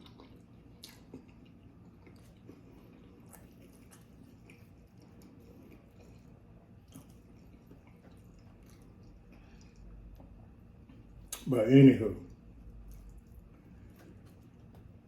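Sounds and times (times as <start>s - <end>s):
person chewing food: 0.0s - 11.5s, 12.3s - 15.0s.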